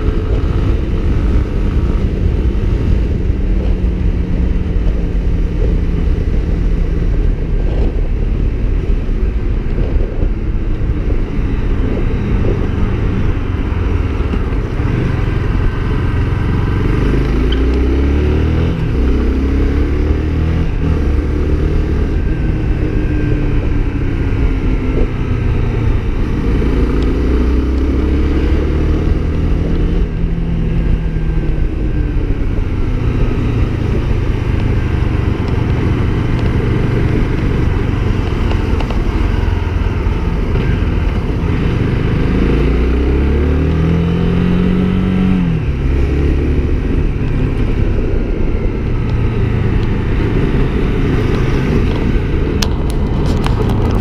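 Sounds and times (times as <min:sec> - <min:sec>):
motorcycle engine revving: 0:00.0 - 0:54.0
traffic rumble: 0:00.0 - 0:54.0.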